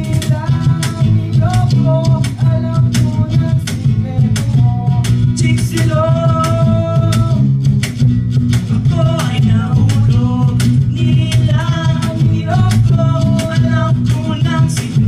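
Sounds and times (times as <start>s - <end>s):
person singing: 0.0s - 7.6s, 8.7s - 15.0s
strummed acoustic guitar: 0.0s - 15.0s.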